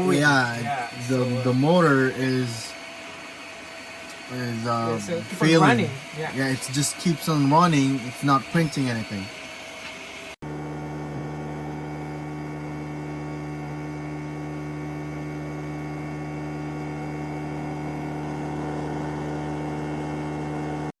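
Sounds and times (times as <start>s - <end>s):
printer motor humming: 0.0s - 20.9s.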